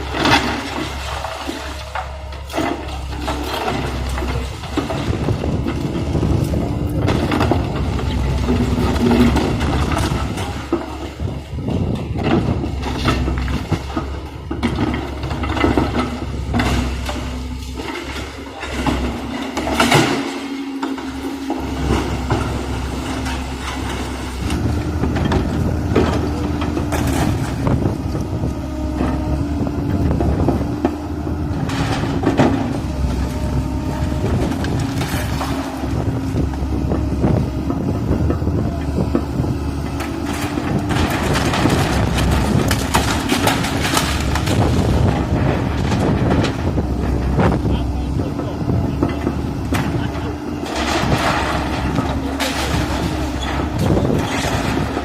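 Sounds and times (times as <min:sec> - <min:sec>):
building crashing and clattering: 0:00.0 - 0:29.2, 0:30.0 - 0:36.5, 0:39.0 - 0:47.8, 0:48.4 - 0:55.0
excavator diesel engine: 0:00.0 - 0:55.0.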